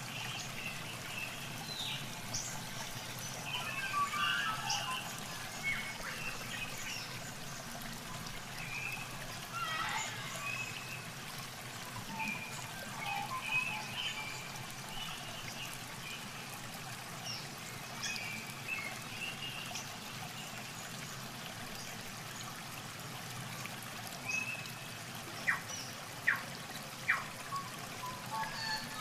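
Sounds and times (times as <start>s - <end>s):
water splashing and trickling: 0.0s - 29.0s.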